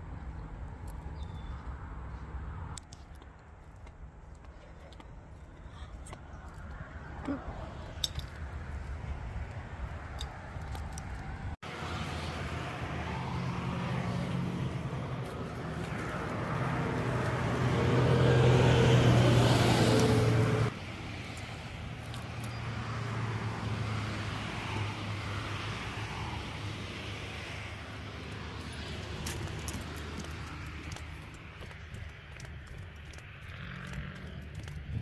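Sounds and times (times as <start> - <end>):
car engine and road drone: 0.0 - 35.0.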